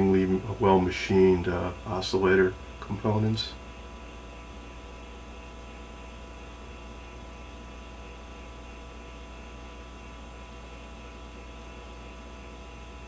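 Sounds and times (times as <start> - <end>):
constant hiss: 0.0 - 13.0
electrical mains hum: 0.0 - 13.0.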